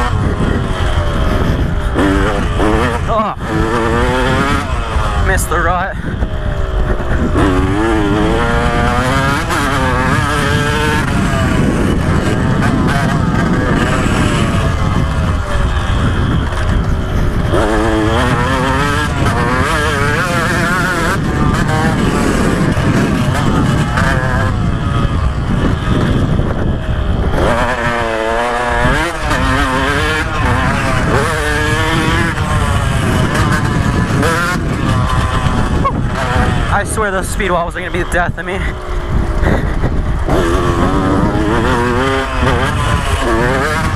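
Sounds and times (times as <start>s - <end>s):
two-stroke motorcycle engine revving: 0.0s - 43.9s
wind on microphone: 0.0s - 43.9s.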